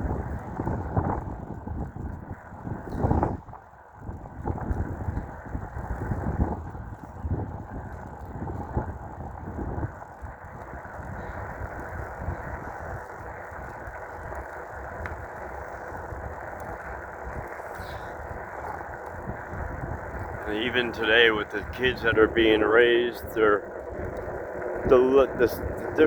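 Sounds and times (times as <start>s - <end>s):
tyre and road noise: 0.0s - 26.0s
wind buffeting microphone: 0.0s - 26.0s.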